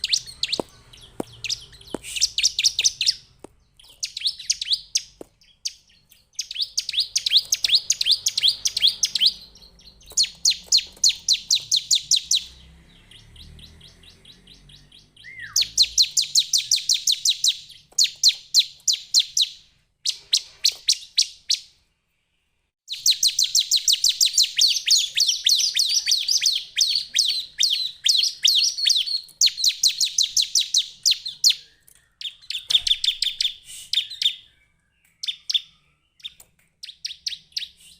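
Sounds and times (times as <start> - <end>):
bird singing high chirps: 0.0 - 21.8, 22.9 - 37.9.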